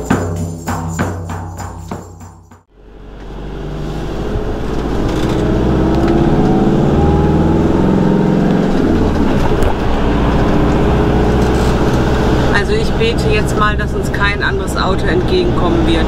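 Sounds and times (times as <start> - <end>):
road noise: 2.5 - 16.0
van engine driving uphill: 2.6 - 16.0.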